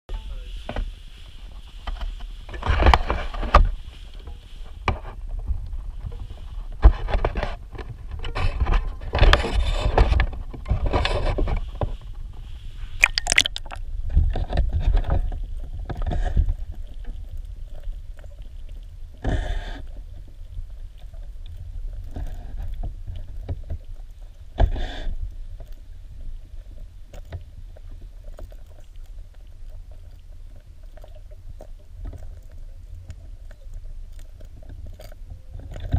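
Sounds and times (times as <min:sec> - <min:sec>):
muffled underwater rumble: 0:00.1 - 0:35.9.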